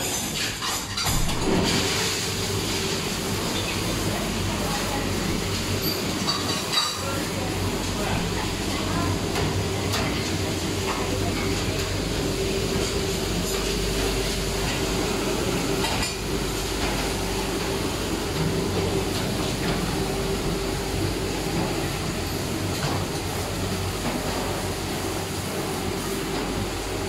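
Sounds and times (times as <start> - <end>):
dishwasher rushing noise: 0.0 - 27.0.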